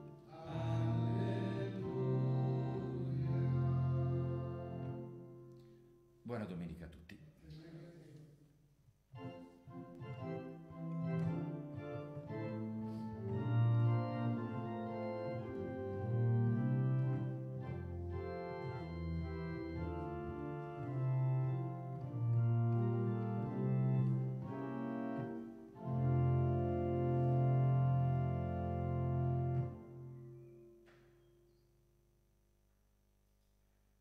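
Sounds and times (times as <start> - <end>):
organ playing slow chords: 0.0 - 6.2, 9.1 - 31.6.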